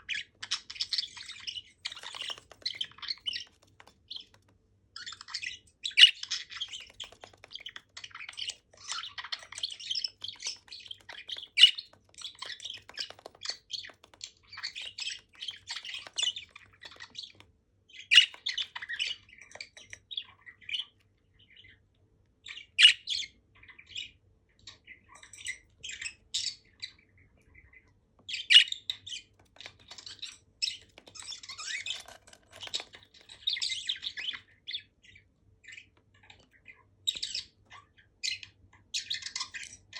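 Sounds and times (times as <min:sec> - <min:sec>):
budgerigars chirping: 0:00.0 - 0:04.4, 0:05.0 - 0:21.8, 0:24.7 - 0:39.9.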